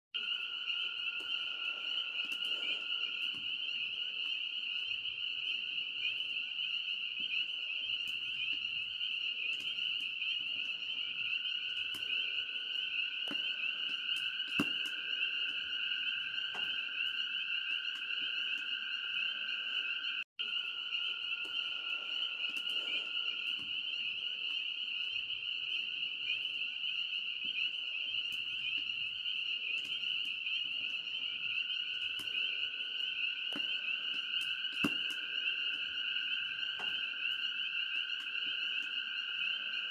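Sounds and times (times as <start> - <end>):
campfire popping and crackling: 0.2 - 39.9
high frog chorus: 0.2 - 39.9
lower frog chorus: 0.2 - 39.9.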